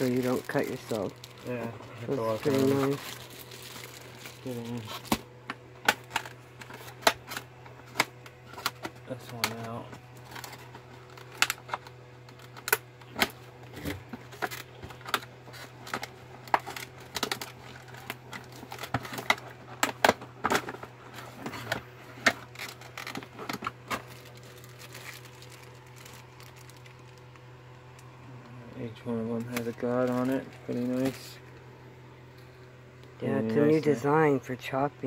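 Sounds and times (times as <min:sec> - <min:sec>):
packaging clicking and crinkling: 0:00.0 - 0:28.1, 0:29.3 - 0:31.3
faint steady hum: 0:00.0 - 0:35.0.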